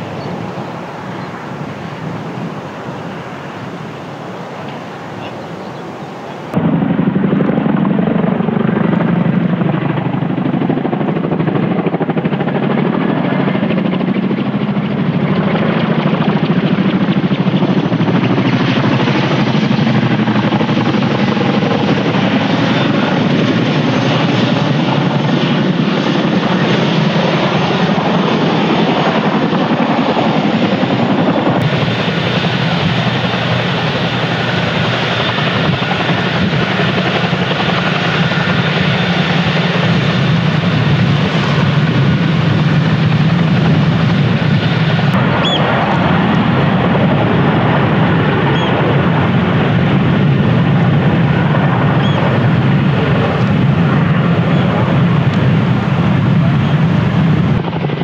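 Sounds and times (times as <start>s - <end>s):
helicopter flying past: 0.0s - 58.0s.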